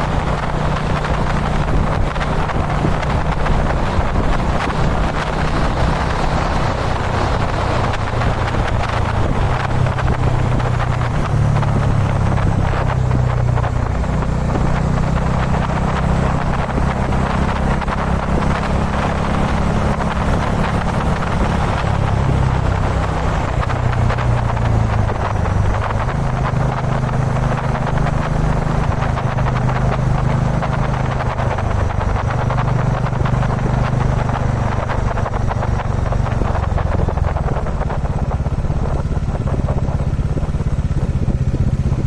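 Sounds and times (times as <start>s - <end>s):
motorcycle engine cruising: 0.0s - 42.0s
wind rushing over microphone: 0.0s - 42.0s.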